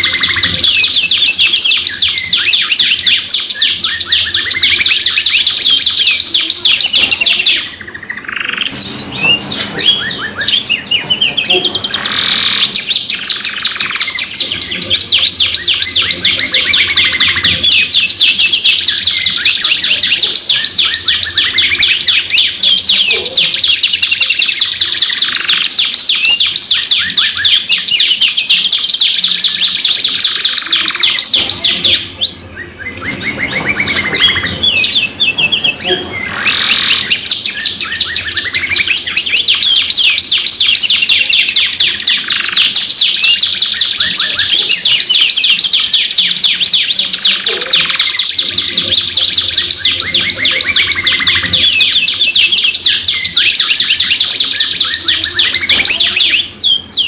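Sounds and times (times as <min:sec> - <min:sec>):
canary trilling and chirping: 0:00.0 - 0:57.0.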